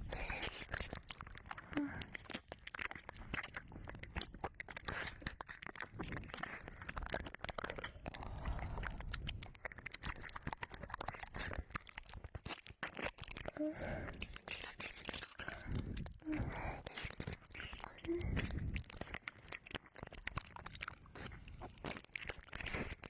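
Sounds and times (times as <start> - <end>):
wet mouth sounds and licking: 0.0 - 23.0.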